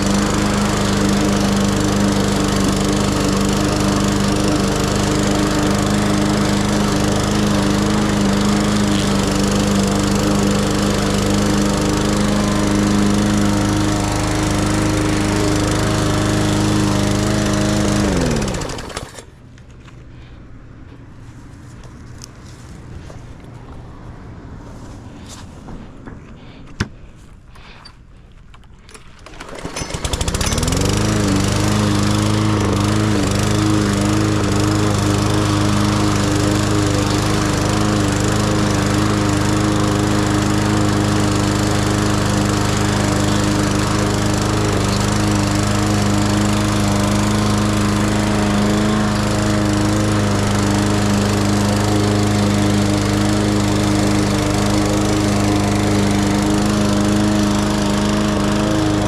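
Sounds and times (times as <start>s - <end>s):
lawn mower engine running: 0.0s - 23.2s, 28.6s - 59.0s.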